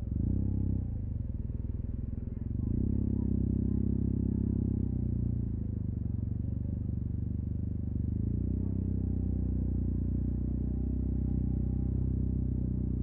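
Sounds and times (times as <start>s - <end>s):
scooter engine running at low revs: 0.0s - 13.0s.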